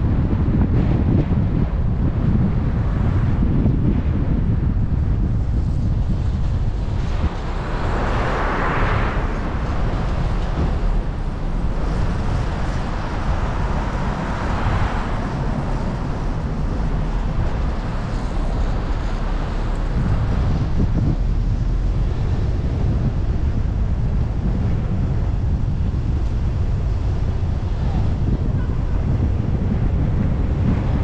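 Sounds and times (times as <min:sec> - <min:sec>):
low road rumble: 0:00.0 - 0:31.0
wind on microphone: 0:00.0 - 0:31.0.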